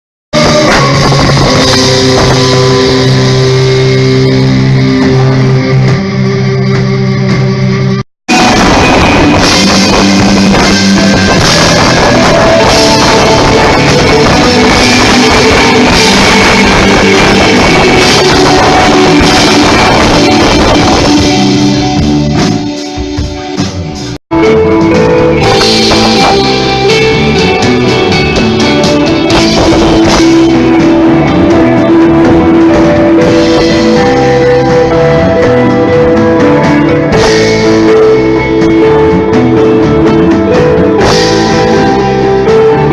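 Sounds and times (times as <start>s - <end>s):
live rock band playing loudly: 0.3s - 42.9s.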